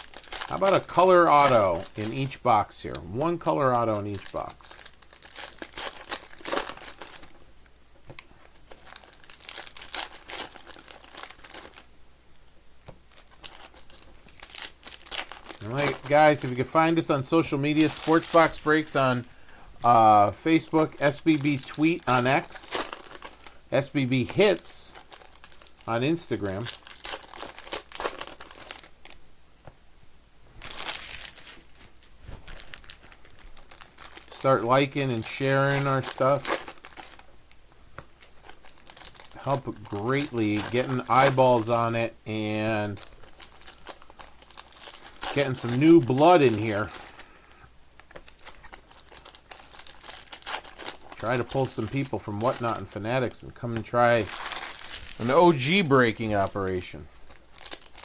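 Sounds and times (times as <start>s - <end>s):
card pack wrappers crinkling: 0.0s - 7.4s, 8.1s - 11.9s, 13.0s - 29.2s, 30.6s - 58.0s.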